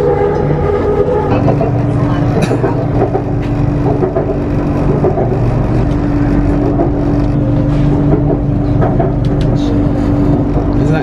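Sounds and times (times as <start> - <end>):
electric train rumbling hum: 0.0 - 11.0.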